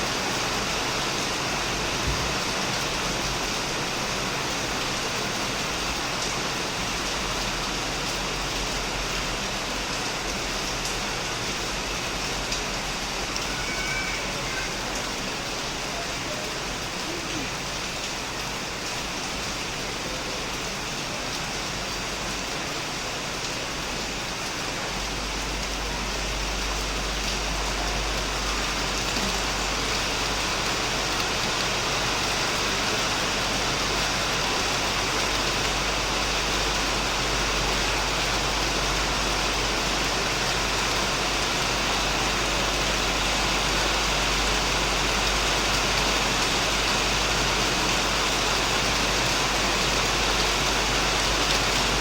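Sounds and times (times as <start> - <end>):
heavy rain on shed and plants: 0.0 - 52.0.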